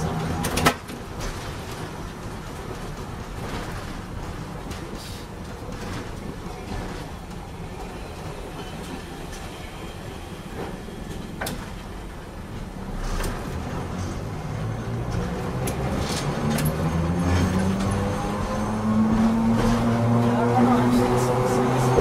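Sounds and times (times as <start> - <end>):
streetcar rumble: 0.0 - 22.0
wheels clicking on rails: 0.0 - 22.0.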